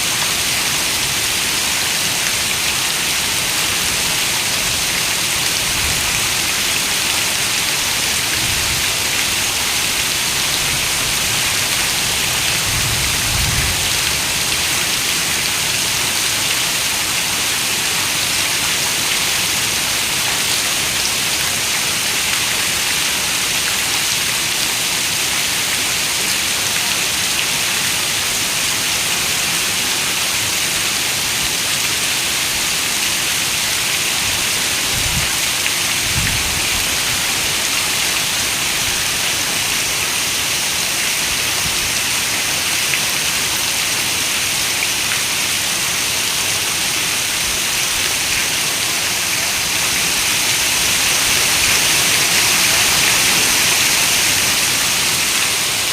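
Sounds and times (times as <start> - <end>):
heavy rain on a window: 0.2 - 55.9.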